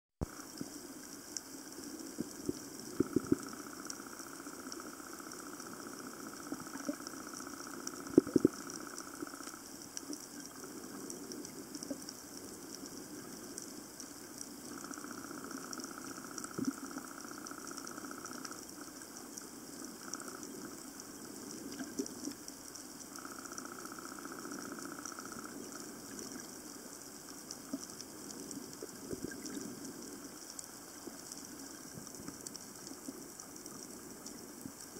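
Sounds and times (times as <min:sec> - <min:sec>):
faint high crackling: 0:00.2 - 0:34.9.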